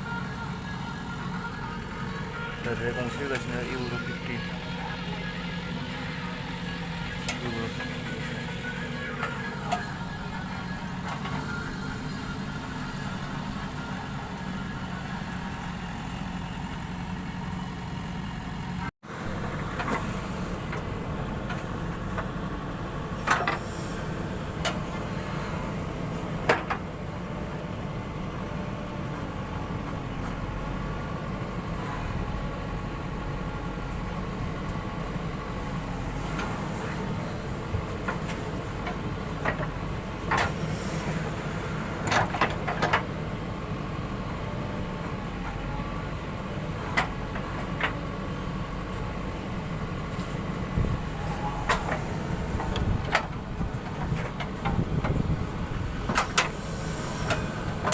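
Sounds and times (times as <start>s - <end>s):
diesel engine humming: 0.0s - 57.9s.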